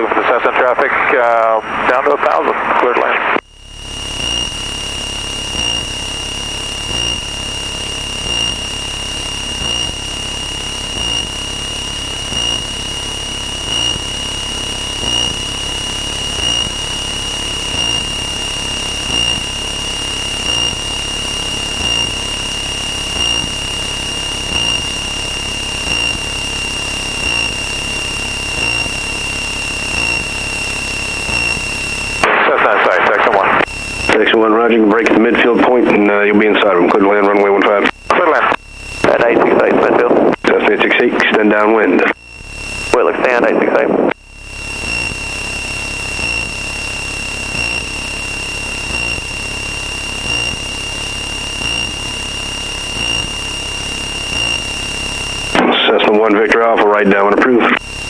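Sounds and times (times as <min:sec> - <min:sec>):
aircraft engine drone: 0:00.0 - 0:58.0
high-pitched electronic warning tone: 0:03.4 - 0:58.0.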